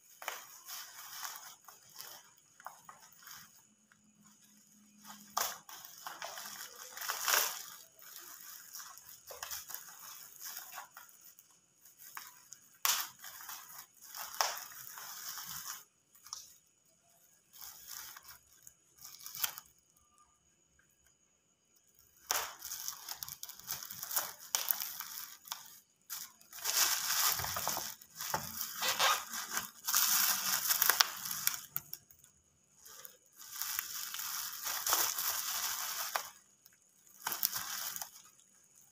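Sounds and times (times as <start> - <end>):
plastic crinkling and tearing: 0.0 - 20.4, 21.7 - 38.9.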